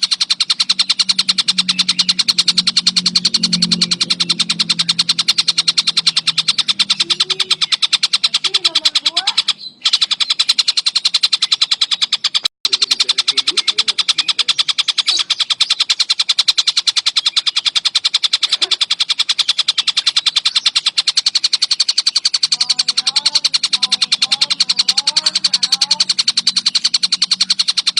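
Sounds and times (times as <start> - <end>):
kingfisher chattering call: 0.0 - 27.9.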